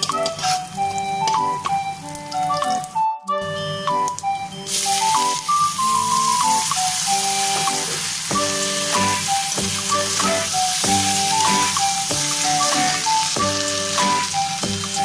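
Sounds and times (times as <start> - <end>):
food sizzling in oil: 0.0 - 2.8, 4.6 - 15.0
background music with melody: 0.0 - 15.0.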